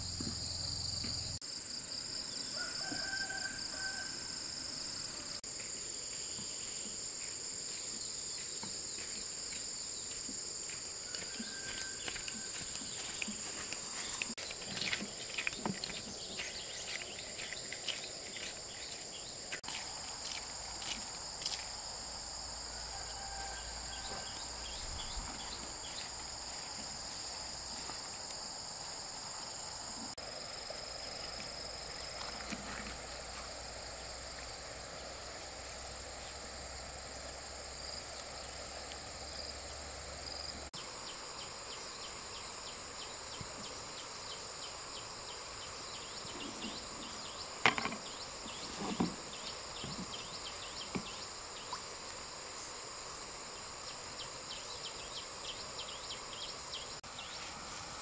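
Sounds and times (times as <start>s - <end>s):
insects trilling in chorus: 0.0s - 58.0s.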